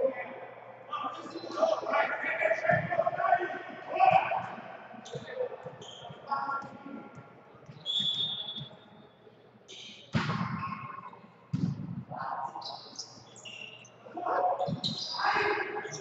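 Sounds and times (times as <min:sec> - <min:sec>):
players' voices: 0:00.0 - 0:08.6, 0:09.7 - 0:16.0.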